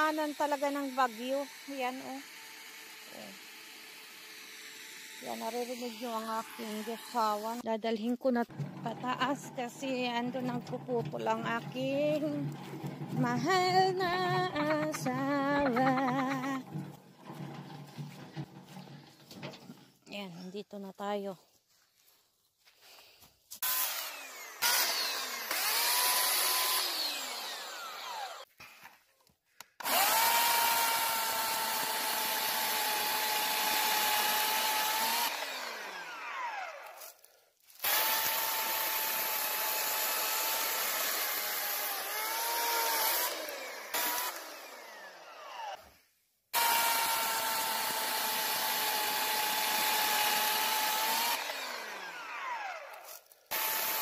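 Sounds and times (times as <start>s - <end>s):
electric chainsaw cutting wood: 0.0s - 7.6s, 8.4s - 19.4s, 23.6s - 28.5s, 29.8s - 54.0s.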